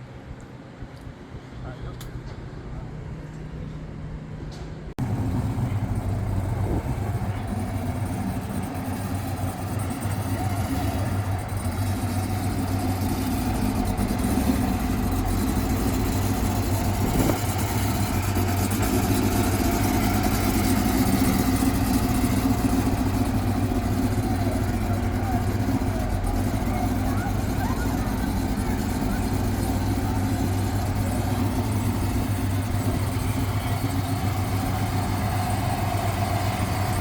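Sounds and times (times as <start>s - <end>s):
car engine humming: 5.0s - 37.0s.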